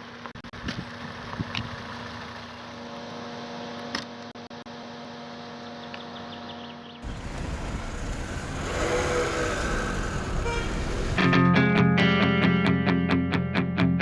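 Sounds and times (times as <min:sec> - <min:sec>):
car engine and road hum: 0:00.0 - 0:11.4.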